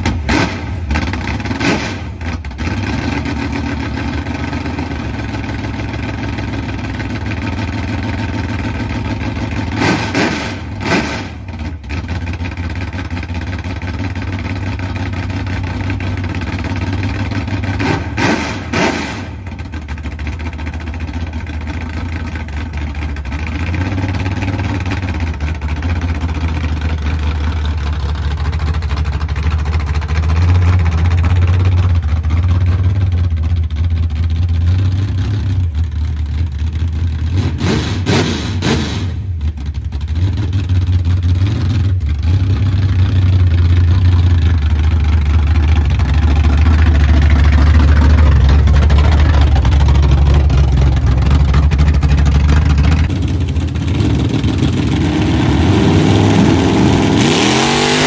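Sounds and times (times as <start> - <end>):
pickup engine idling: 0.0 - 9.8, 10.6 - 37.4, 39.1 - 57.2.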